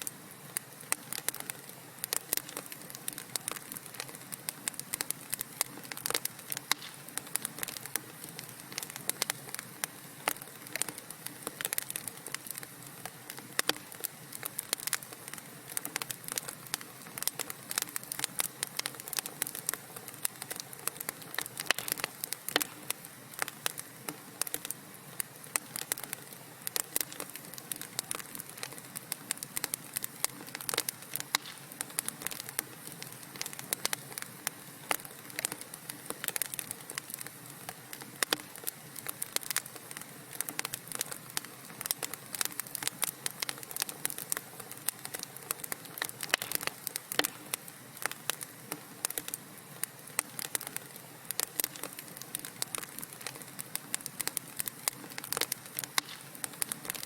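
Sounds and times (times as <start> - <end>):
burning wood crackling: 0.0 - 57.0.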